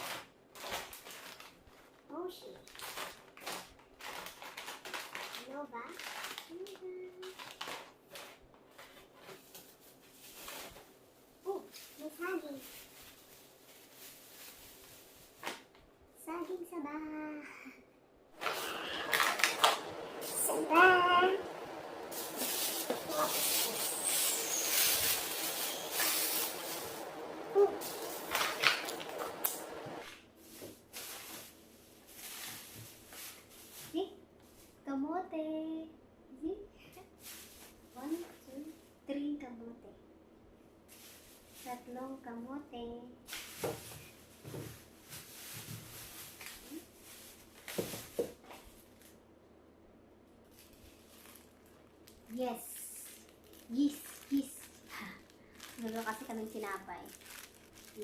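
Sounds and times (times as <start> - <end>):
plastic packaging rustling: 0.0 - 15.8, 18.4 - 34.8, 40.9 - 42.0, 43.3 - 49.2, 50.4 - 58.0.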